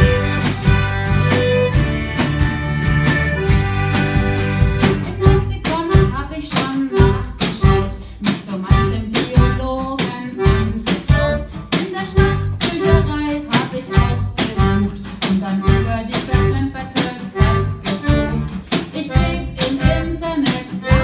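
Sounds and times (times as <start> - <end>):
band music with plucked strings: 0.0 - 21.0.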